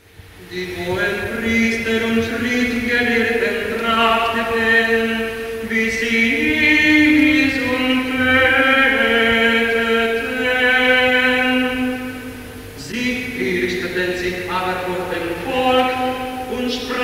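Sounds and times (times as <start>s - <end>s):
choir holding chords: 0.0s - 17.0s
tenor chanting: 0.0s - 17.0s.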